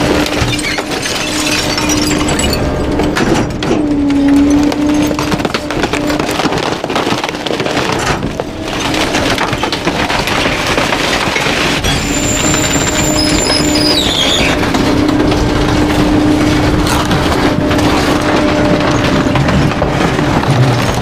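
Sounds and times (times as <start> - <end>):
truck low hum: 0.0 - 21.0
wood cracking and splintering: 0.0 - 21.0.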